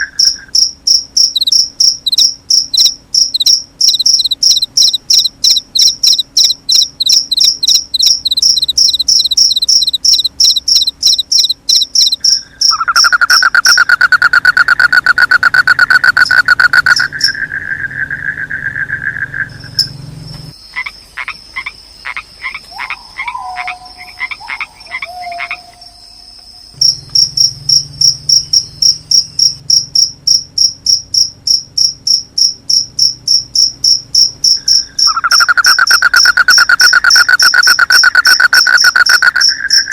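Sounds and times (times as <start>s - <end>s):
frog trilling call: 0.0s - 29.9s, 34.0s - 39.9s
crickets chirping: 0.0s - 39.9s
frogs croaking: 0.0s - 39.9s.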